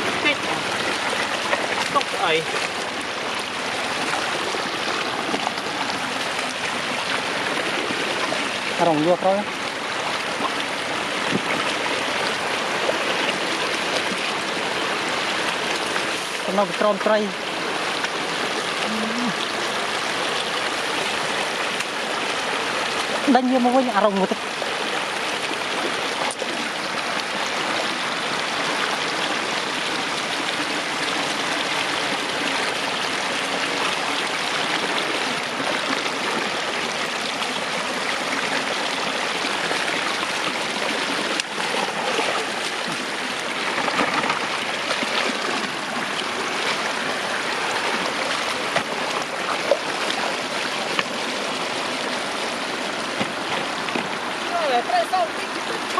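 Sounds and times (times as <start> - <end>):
floodwater running across road: 0.0 - 55.9.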